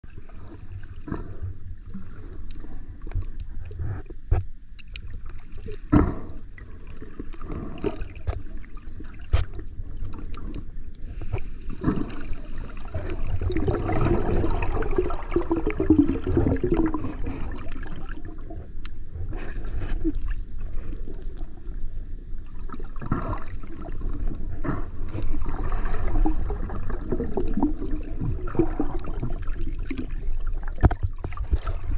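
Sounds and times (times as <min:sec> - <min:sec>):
low rumble of moving water: 0:00.0 - 0:31.9
water bubbling and gurgling: 0:00.0 - 0:31.9.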